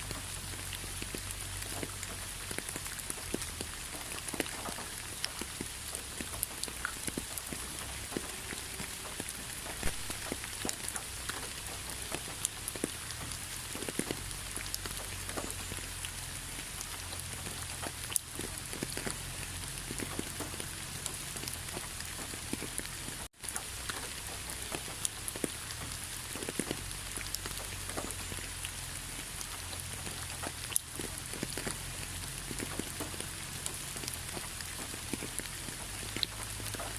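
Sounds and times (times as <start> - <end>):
raindrops ticking close by: 0.0 - 36.9
steady rain hiss: 0.0 - 36.9.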